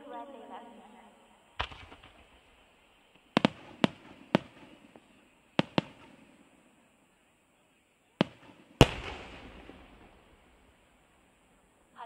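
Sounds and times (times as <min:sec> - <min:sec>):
fireworks bursting with echo: 0:01.2 - 0:12.0.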